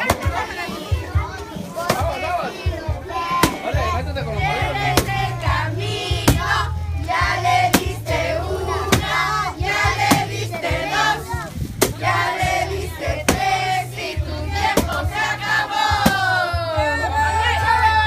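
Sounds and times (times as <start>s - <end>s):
group singing: 1.8s - 18.0s
music with steady bass line: 2.6s - 18.0s.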